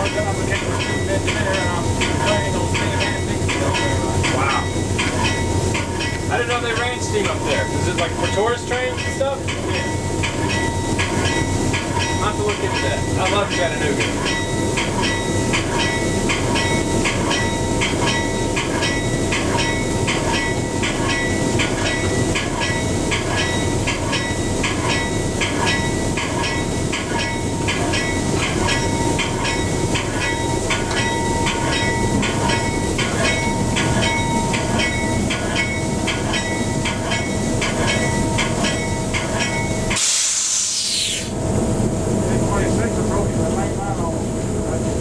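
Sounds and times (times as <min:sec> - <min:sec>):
fast regular clicking of rails: 0:00.0 - 0:40.0
train rumbling: 0:00.0 - 0:45.0.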